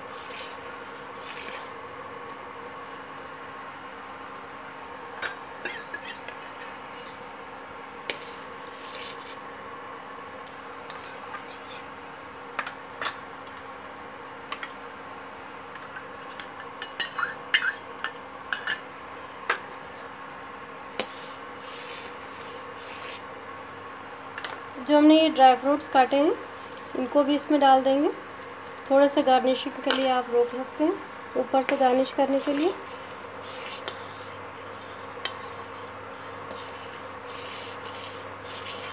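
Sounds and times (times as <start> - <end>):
faint cooktop hum: 0.0 - 38.9.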